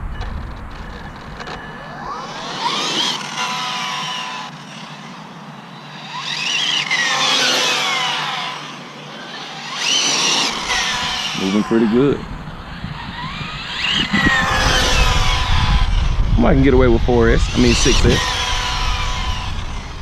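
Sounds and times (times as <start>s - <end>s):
rc car electric motor whining: 0.2s - 20.0s.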